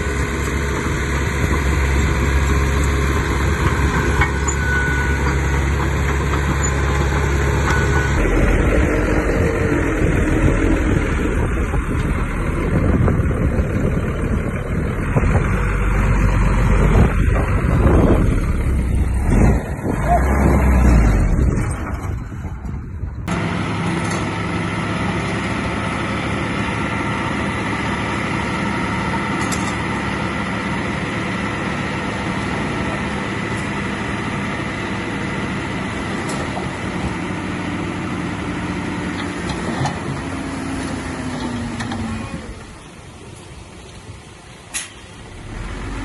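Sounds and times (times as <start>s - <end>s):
heavy diesel machinery running: 0.0s - 46.0s.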